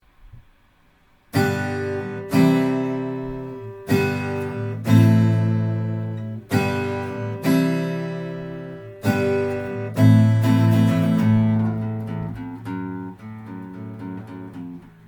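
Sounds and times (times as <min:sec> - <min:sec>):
strummed chords on strings: 0:01.3 - 0:15.0.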